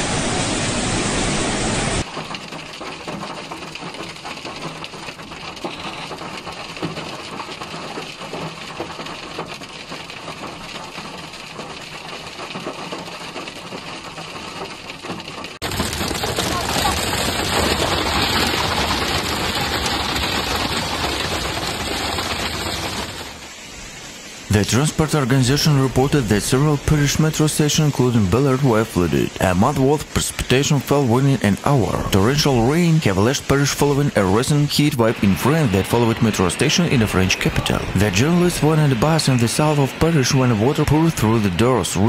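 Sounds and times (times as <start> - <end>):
downpour drumming on a car: 1.6 - 42.0
hail rattling on a car: 2.0 - 42.0.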